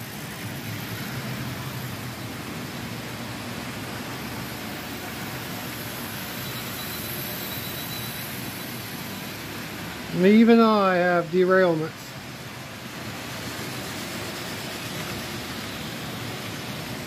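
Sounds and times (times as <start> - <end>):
model train whirring: 0.0 - 17.0.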